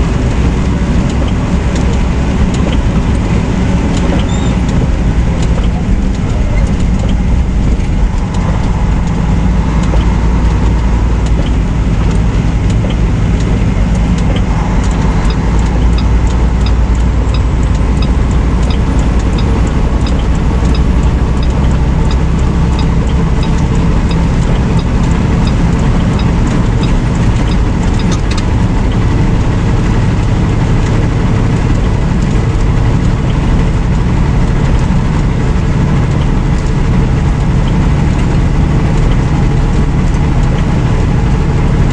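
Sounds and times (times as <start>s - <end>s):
light ticking: 0.0s - 41.9s
road noise: 0.0s - 41.9s
truck diesel engine rumble: 0.0s - 41.9s.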